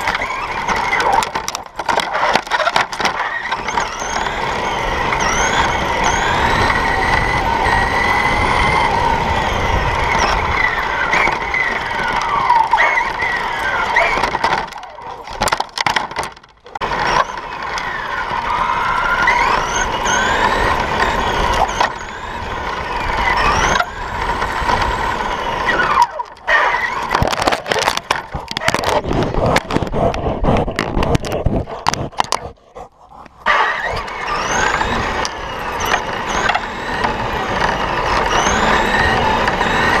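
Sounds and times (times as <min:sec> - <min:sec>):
knocks scrapes and thumps: 0:00.0 - 0:06.4, 0:10.4 - 0:17.5, 0:20.2 - 0:40.0
rc car motor whining: 0:00.0 - 0:15.6, 0:16.2 - 0:40.0.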